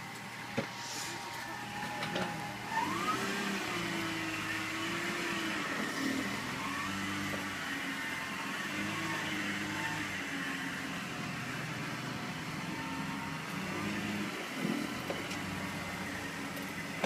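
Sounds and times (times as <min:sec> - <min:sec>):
car engine running: 0:00.0 - 0:17.0
jet-like engine whine: 0:00.0 - 0:17.0.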